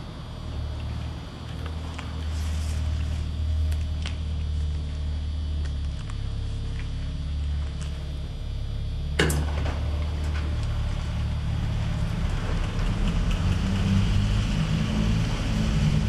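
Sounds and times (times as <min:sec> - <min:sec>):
deep bass drone from loudspeakers: 0:00.0 - 0:16.0.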